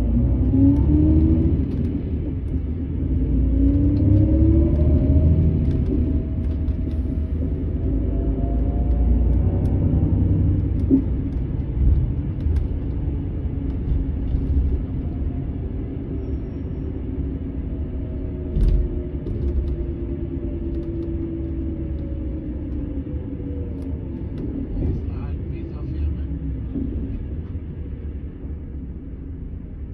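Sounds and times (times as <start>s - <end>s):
coach engine rumble with whine: 0.0s - 29.9s.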